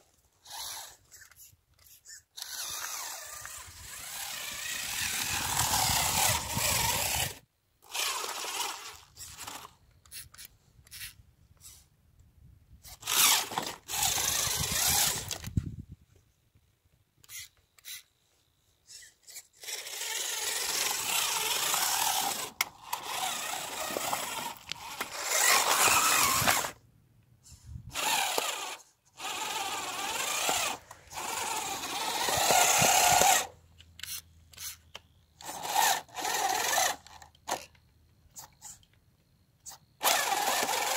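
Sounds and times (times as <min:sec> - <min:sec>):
rc car motor whining: 0:00.4 - 0:11.9, 0:12.8 - 0:15.6, 0:17.2 - 0:18.1, 0:18.8 - 0:26.8, 0:27.5 - 0:38.9, 0:39.6 - 0:40.9.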